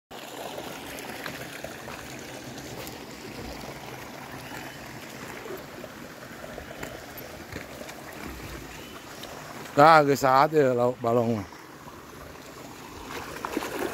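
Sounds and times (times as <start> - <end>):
trickling water: 0.1 - 13.9.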